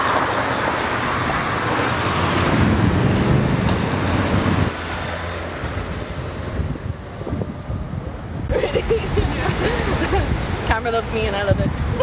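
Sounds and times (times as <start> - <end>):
vehicles passing: 0.0 - 12.0.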